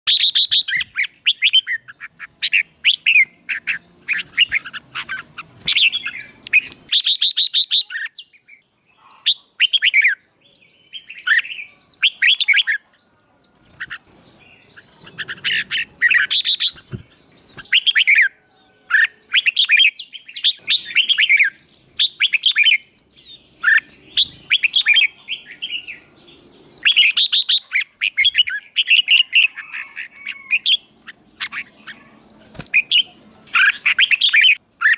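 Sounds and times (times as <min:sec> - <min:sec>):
songbird chirping and warbling: 0:00.1 - 0:34.9.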